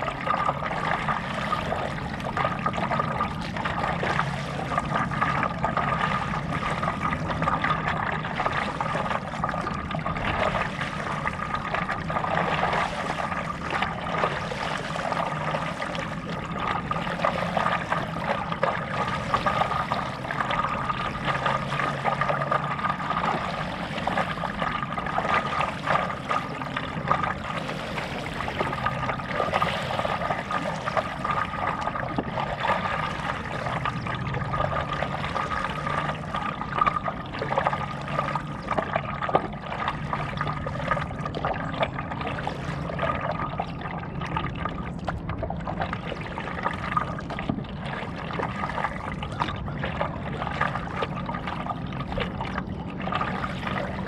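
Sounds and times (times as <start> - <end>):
paddle splashing in water: 0.0 - 54.0.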